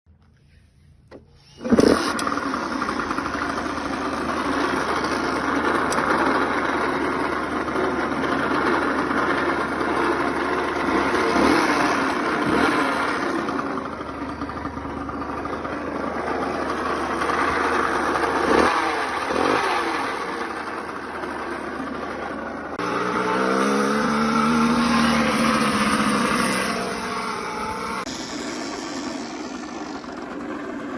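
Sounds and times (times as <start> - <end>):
strange mechanical engine noise: 0.1 - 30.9
two-stroke motorcycle engine revving: 1.6 - 30.9.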